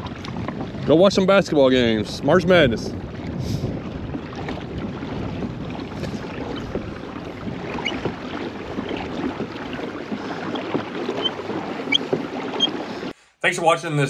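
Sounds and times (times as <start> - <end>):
wind rumbling on microphone: 0.0 - 13.1
water washing along hull: 0.0 - 13.2.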